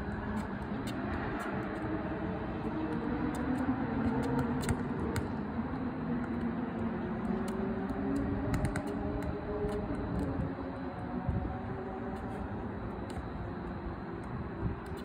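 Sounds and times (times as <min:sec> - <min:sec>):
machinery hum: 0:00.0 - 0:15.0
traffic hum: 0:00.0 - 0:15.0.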